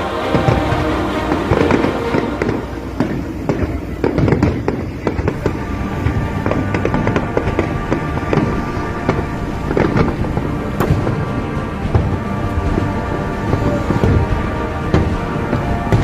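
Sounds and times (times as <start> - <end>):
fireworks bangs and crackling: 0.0 - 16.0
low rumble: 0.0 - 16.0
music playing: 0.0 - 16.0.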